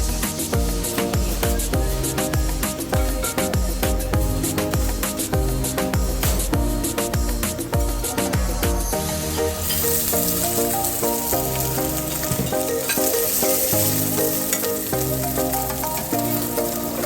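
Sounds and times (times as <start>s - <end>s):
background music: 0.0s - 17.0s
food sizzling: 0.0s - 17.0s.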